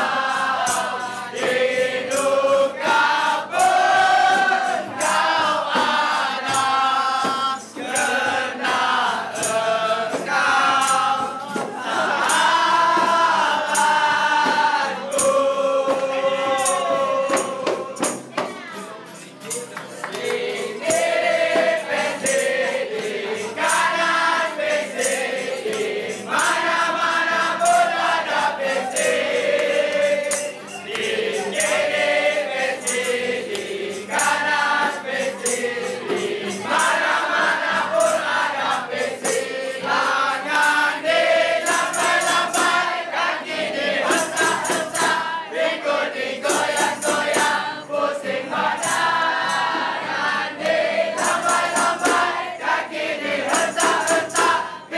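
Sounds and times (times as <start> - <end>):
sharp percussive strikes: 0.0 - 47.8, 48.6 - 54.9
acoustic guitar strumming: 0.0 - 54.9
group of voices singing: 0.0 - 54.9.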